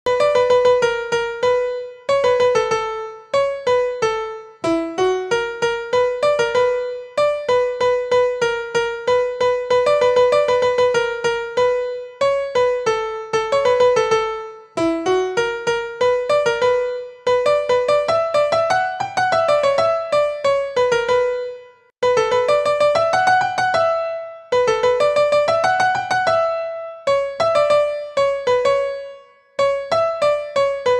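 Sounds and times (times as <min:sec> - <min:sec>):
bright piano melody: 0:00.1 - 0:30.9.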